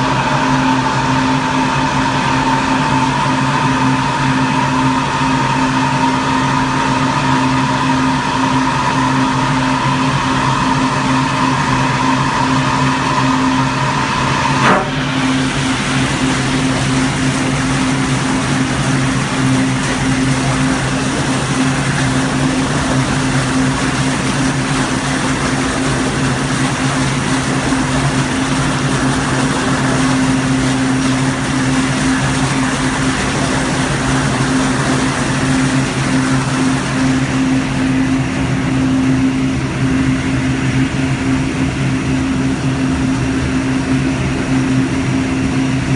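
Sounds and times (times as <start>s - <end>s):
high whine: 0.0s - 45.9s
steady machine hum: 0.0s - 45.9s
water churning roar: 0.0s - 45.9s.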